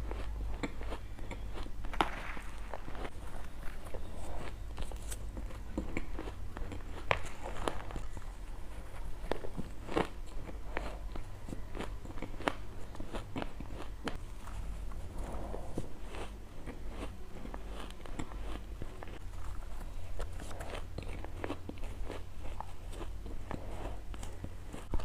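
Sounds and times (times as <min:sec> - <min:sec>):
ice being chewed: 0:00.0 - 0:01.8, 0:02.6 - 0:25.0
steady low hum: 0:00.0 - 0:25.0.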